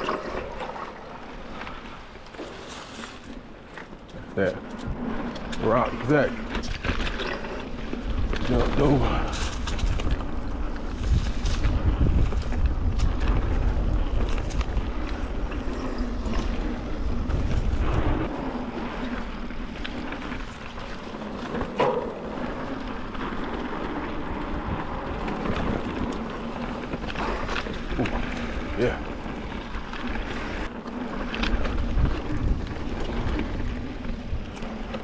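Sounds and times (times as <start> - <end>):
bike tyre noise: 0.0 - 35.0
wind buffeting microphone: 0.0 - 35.0
bike rattles and knocks: 1.6 - 35.0.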